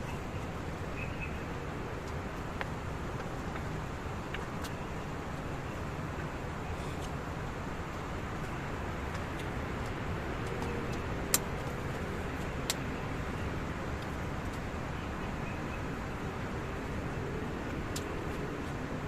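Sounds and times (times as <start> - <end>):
strong wind through pine trees: 0.0 - 19.0.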